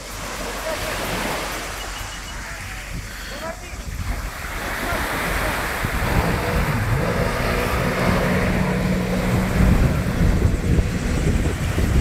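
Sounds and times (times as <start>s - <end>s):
jet ski engine running: 0.0s - 12.0s
wind buffeting microphone: 2.3s - 12.0s.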